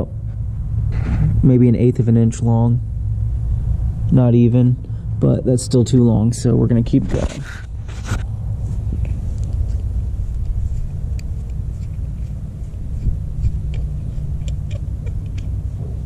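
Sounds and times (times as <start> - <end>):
wind rumbling on microphone: 0.0 - 4.1, 4.8 - 16.0.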